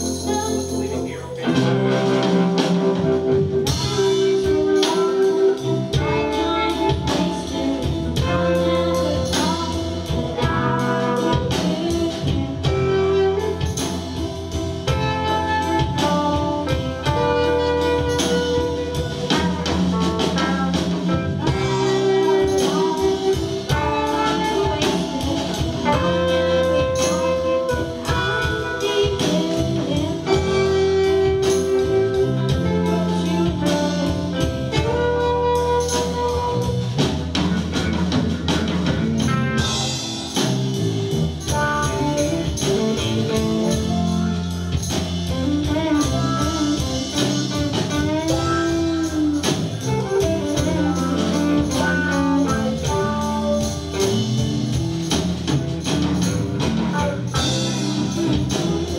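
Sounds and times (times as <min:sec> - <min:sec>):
bending lead guitar notes: 0:00.0 - 0:58.9
live rock band playing: 0:00.0 - 0:58.9.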